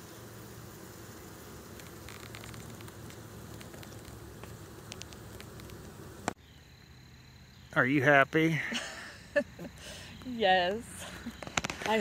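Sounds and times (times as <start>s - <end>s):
bees buzzing: 0.0s - 7.0s, 7.8s - 12.0s.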